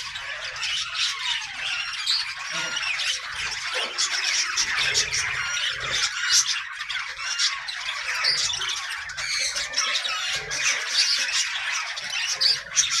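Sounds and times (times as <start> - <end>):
budgerigars chattering and squawking: 0.0 - 13.0.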